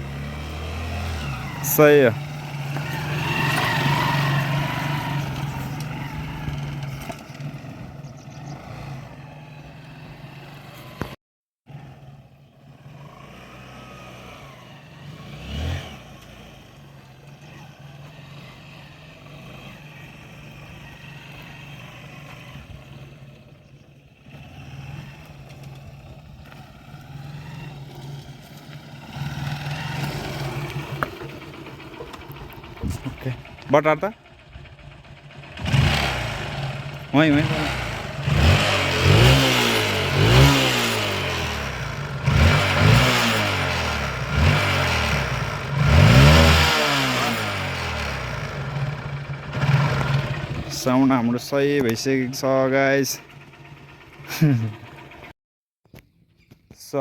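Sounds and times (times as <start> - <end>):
motorcycle engine idling: 0.0 - 11.1, 13.8 - 55.3.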